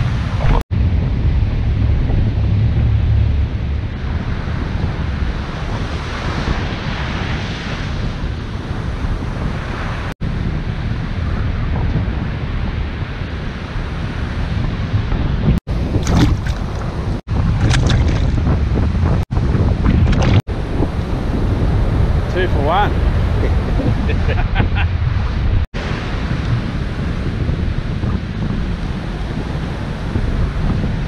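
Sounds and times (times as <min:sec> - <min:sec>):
surf breaking on beach: 0:00.0 - 0:31.0
wind buffeting microphone: 0:00.0 - 0:31.0.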